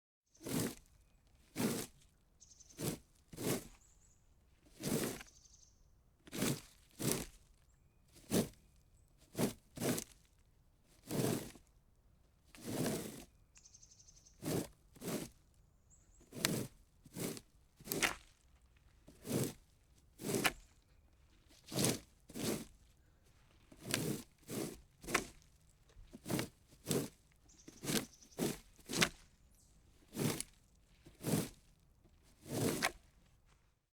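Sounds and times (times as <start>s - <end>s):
plastic rake scraping: 0.3s - 5.5s, 6.2s - 11.7s, 12.5s - 13.7s, 14.3s - 15.4s, 16.1s - 33.7s.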